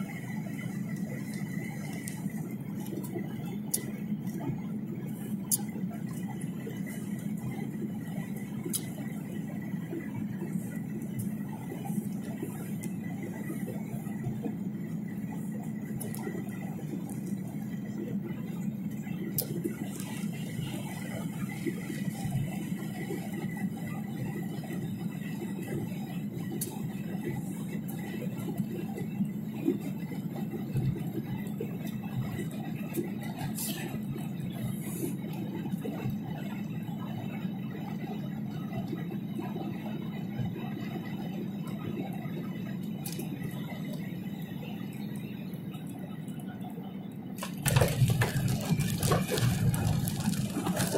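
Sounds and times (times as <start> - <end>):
airliner cabin low rumble: 0.0 - 50.9
jet engines: 0.0 - 50.9.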